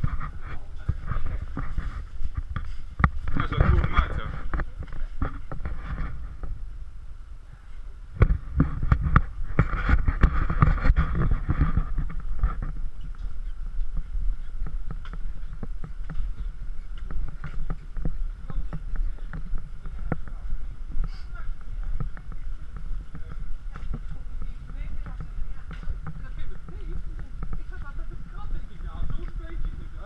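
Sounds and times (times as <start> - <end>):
footsteps on brick paving: 0.0 - 6.8, 8.2 - 30.0
wind rumble on microphone: 0.0 - 30.0.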